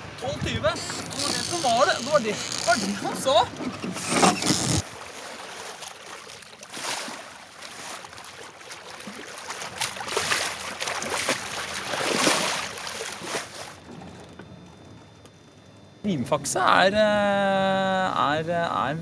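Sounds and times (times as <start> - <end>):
water rushing along boat hull: 0.0 - 15.3.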